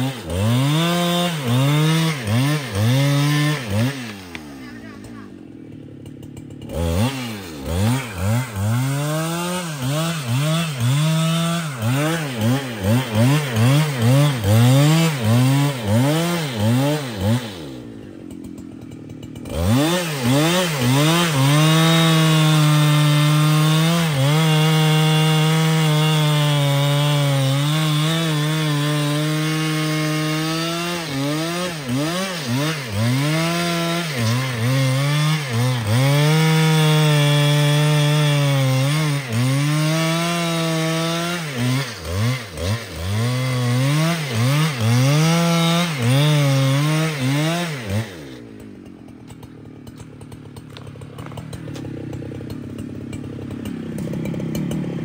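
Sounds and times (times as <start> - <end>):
chainsaw revving and cutting wood: 0.0 - 55.0.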